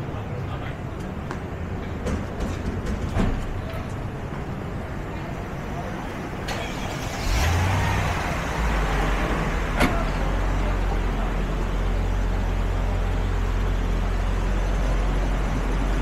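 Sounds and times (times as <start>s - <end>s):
street traffic: 0.0s - 16.0s
vehicle engine humming: 0.0s - 16.0s.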